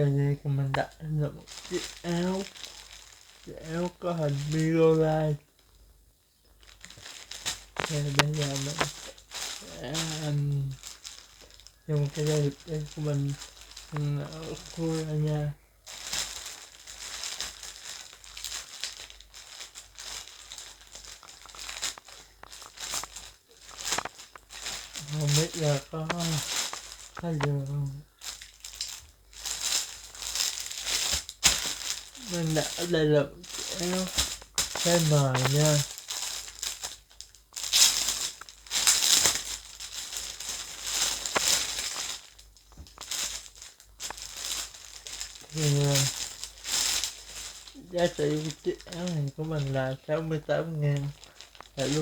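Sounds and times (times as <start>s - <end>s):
package crinkling and tearing: 1.4s - 5.7s, 6.6s - 52.0s.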